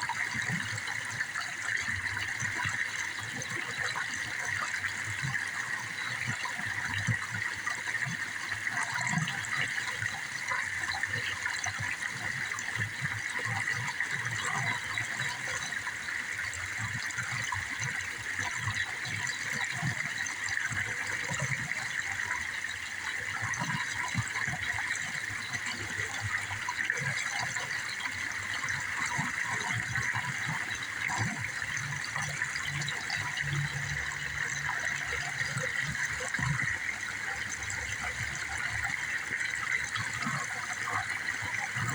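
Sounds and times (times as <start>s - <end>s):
running water: 0.0s - 41.9s.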